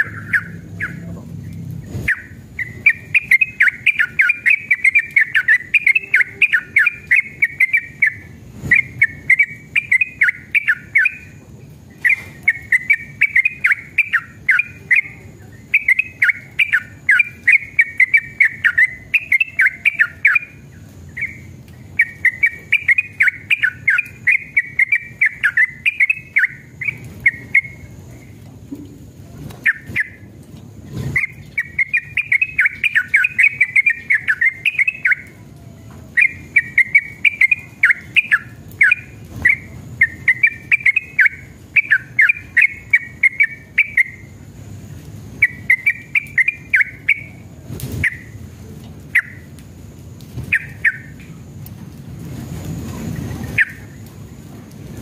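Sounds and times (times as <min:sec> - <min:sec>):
bird singing fast chattering notes: 0:00.0 - 0:28.4, 0:29.6 - 0:30.3, 0:31.1 - 0:35.4, 0:36.1 - 0:44.4, 0:45.3 - 0:47.4, 0:48.0 - 0:48.4, 0:49.1 - 0:49.5, 0:50.5 - 0:51.3, 0:53.5 - 0:54.0.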